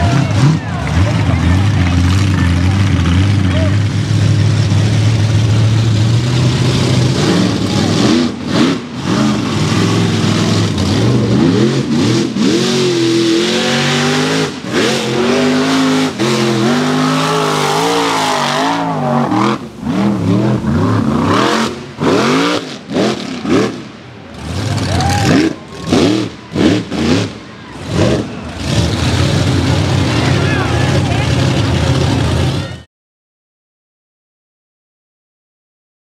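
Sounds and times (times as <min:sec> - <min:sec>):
truck engine revving: 0:00.0 - 0:32.8.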